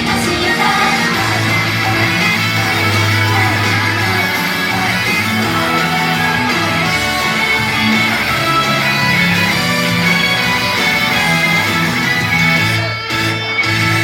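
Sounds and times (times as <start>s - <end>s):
electric guitar strumming: 0.0s - 14.0s
steady bass line: 0.0s - 14.0s.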